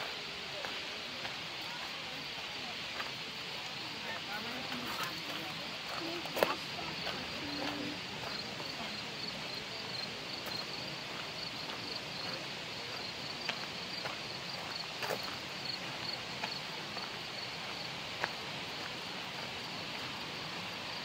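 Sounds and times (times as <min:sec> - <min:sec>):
insect chirping: 0:00.0 - 0:21.0
rushing water: 0:00.0 - 0:21.0.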